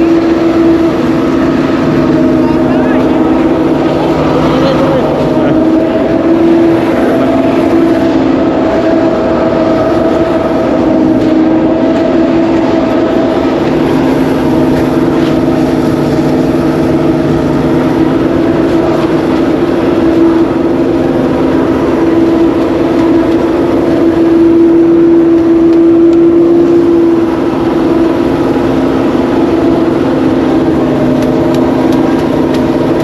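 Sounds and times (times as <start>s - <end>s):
small engine running under load: 0.0s - 33.0s.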